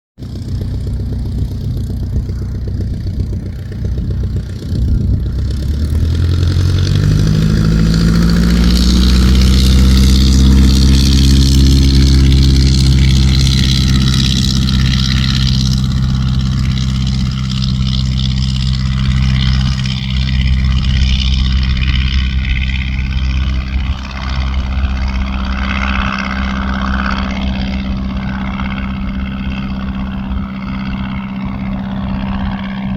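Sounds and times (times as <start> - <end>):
propeller aircraft engine running: 0.2 - 32.9.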